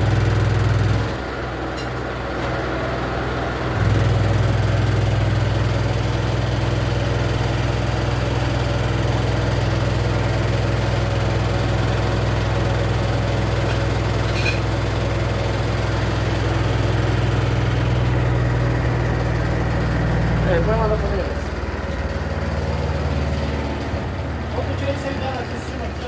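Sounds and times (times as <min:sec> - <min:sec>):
washer-dryer humming: 0:00.0 - 0:26.0.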